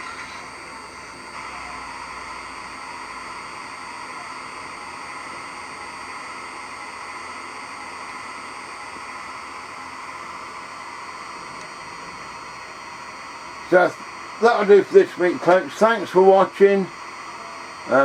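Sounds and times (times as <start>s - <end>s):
electrical hum with hiss: 0.0s - 18.0s.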